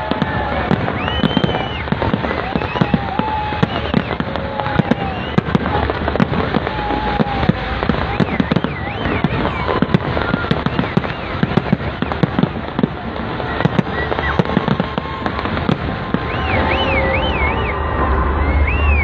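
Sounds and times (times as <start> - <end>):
fireworks bursts and crackles: 0.0 - 19.0
warbling firework whistle: 0.0 - 19.0.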